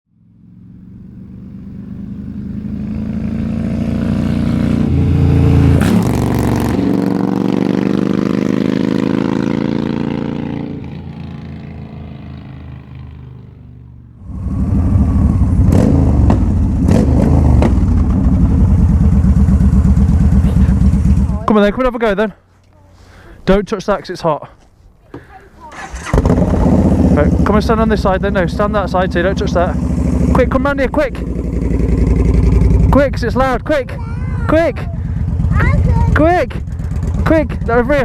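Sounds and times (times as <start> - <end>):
motorcycle engine rumbling: 0.1 - 38.0.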